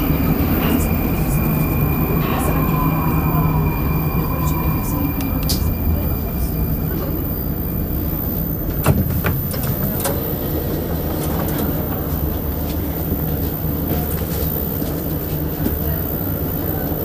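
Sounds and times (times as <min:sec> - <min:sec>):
metro train rumble and hum: 0:00.0 - 0:17.0.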